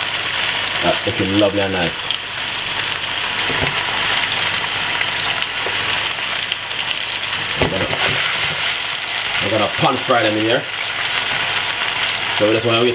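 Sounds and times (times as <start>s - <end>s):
steak frying with crackling: 0.0s - 12.9s.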